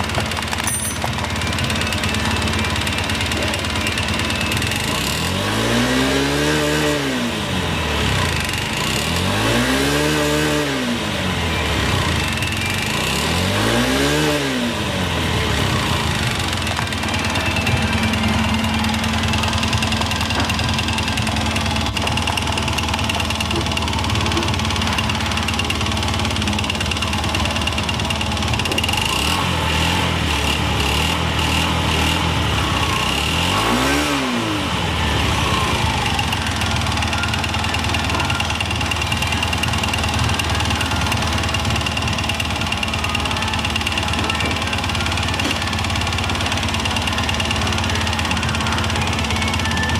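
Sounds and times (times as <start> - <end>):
scooter engine idling and revving: 0.0 - 49.9.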